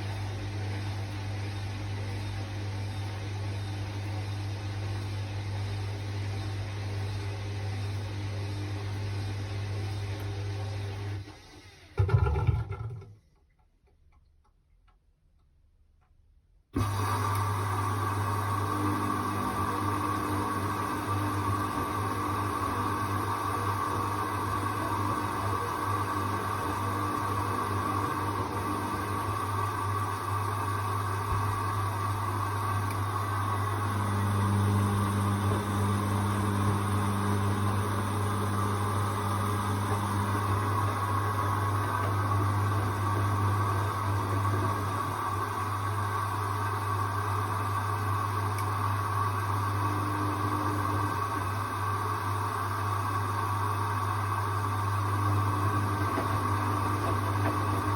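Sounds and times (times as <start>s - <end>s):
washing machine running: 0.0s - 13.2s, 16.8s - 57.9s.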